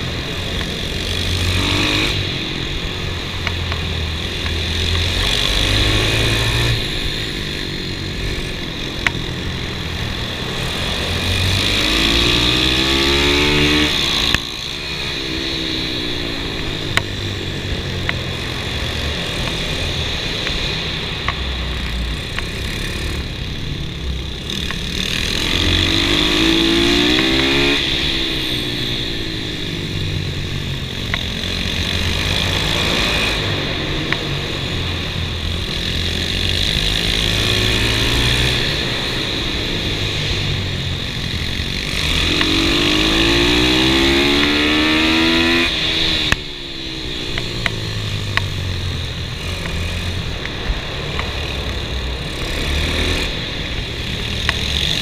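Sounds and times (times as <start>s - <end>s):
minibike engine revving: 0.0s - 55.0s.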